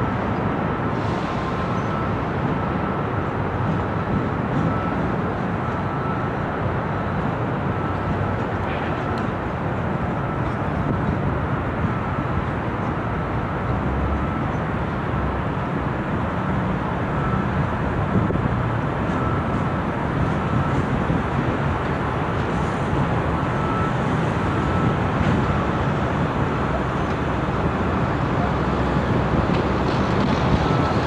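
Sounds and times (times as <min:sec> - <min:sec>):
locomotive running: 0:00.0 - 0:31.0.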